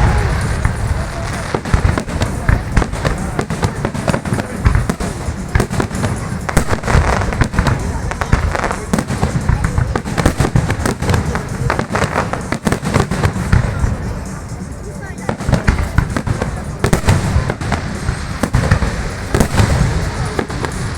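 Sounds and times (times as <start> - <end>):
fireworks barrage of bangs: 0.0 - 20.9.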